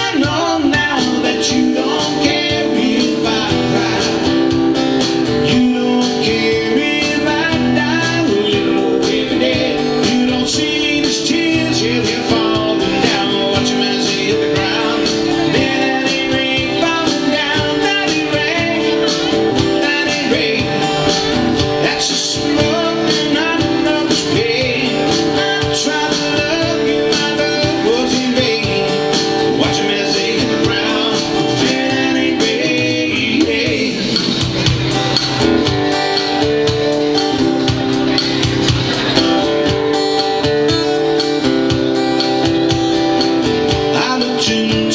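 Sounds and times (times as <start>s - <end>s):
man singing: 0.0s - 34.6s, 42.2s - 44.9s
guitar strumming: 0.0s - 44.9s.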